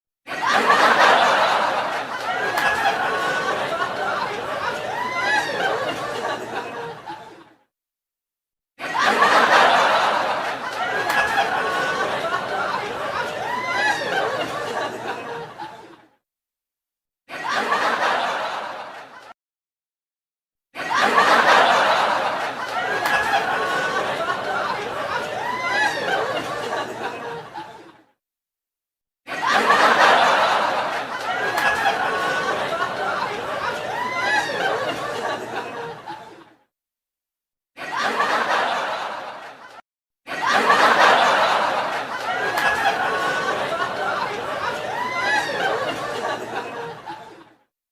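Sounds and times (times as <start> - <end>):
laughter: 0.3 - 7.7, 8.8 - 16.2, 17.3 - 19.4, 20.8 - 28.2, 29.2 - 36.7, 37.8 - 47.7.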